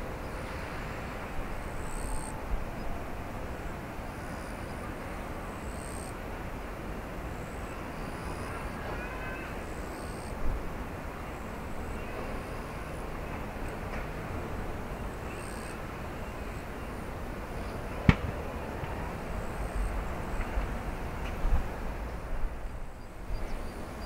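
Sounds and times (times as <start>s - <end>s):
airliner taxiing rumble and hiss: 0.0s - 24.0s.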